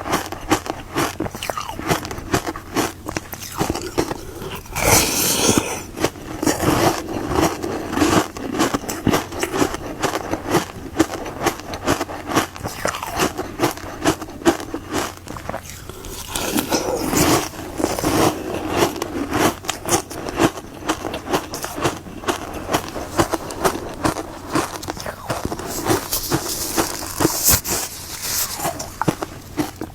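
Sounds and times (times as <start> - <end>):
crunching frozen ice treat: 0.0 - 29.9.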